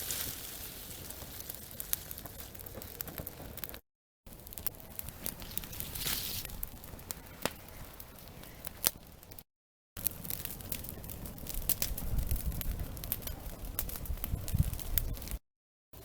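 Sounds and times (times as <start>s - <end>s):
campfire crackling: 0.0s - 9.4s, 10.0s - 15.4s
sharp fire pops: 0.0s - 9.4s, 10.0s - 15.4s.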